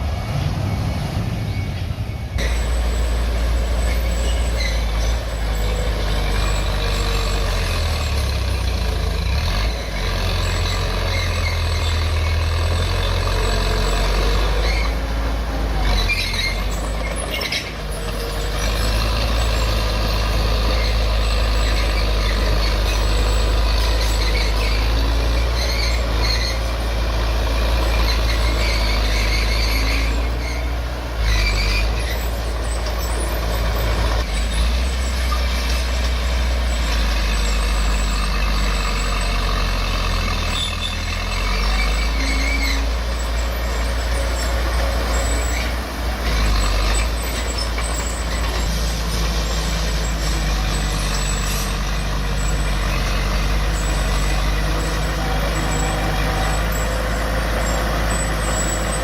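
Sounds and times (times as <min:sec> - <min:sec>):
diesel machinery engine rumble: 0:00.0 - 0:59.0.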